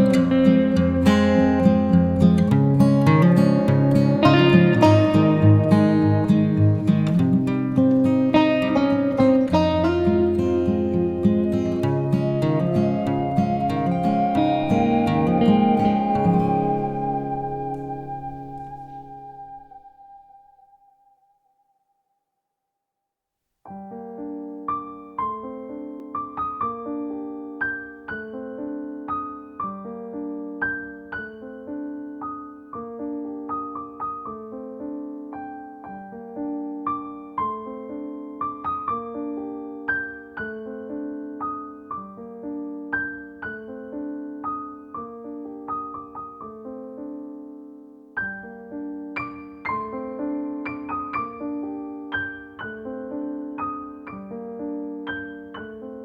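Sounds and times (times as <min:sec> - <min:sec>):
gentle piano music: 0:00.0 - 0:20.3, 0:23.7 - 0:56.0.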